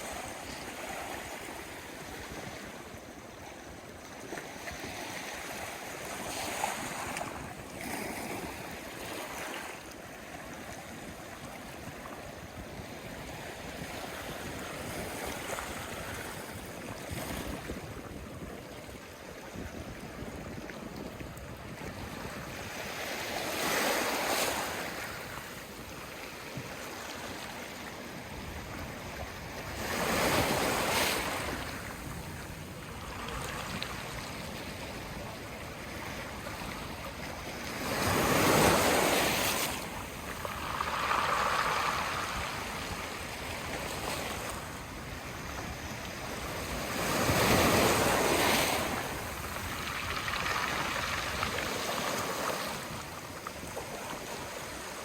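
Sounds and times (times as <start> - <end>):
sea waves washing on shore: 0.0 - 55.0.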